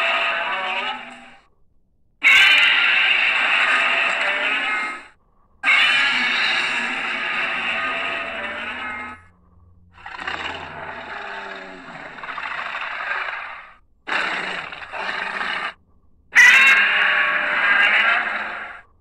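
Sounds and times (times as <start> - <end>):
monster roar: 0.0 - 1.4, 2.2 - 9.2, 10.0 - 15.8, 16.4 - 18.9.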